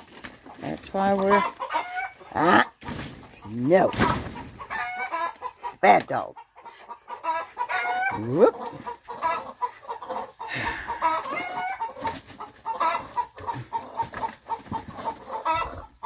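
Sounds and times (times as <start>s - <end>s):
peachicks peeping: 0.0s - 16.0s
peahen clucking: 0.0s - 16.0s.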